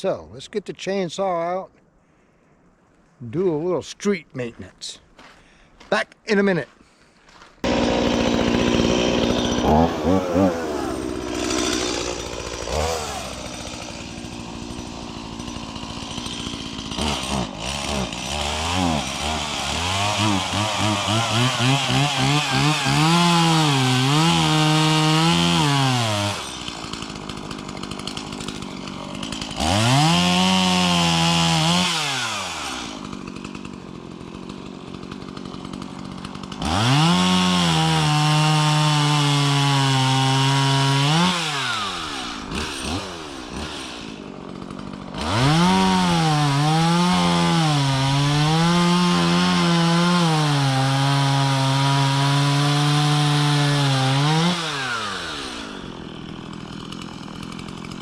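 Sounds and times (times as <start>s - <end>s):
chainsaw cutting wood: 7.3s - 58.0s.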